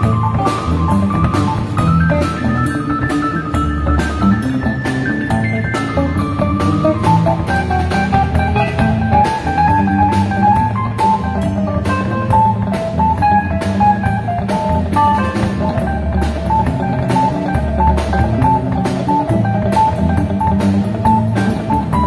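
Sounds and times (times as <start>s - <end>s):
electric guitar lead line: 0.0s - 22.0s
live band playing instrumental: 0.0s - 22.0s.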